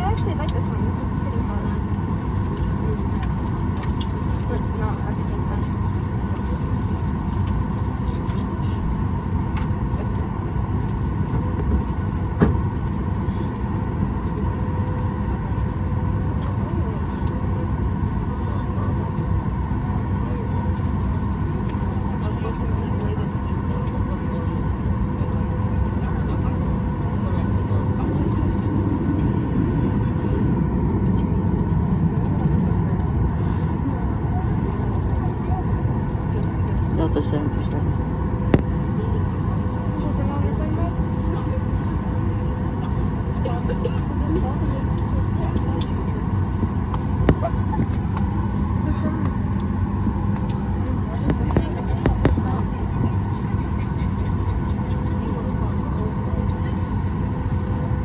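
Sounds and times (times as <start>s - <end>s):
aircraft cabin ventilation drone: 0.0s - 58.0s.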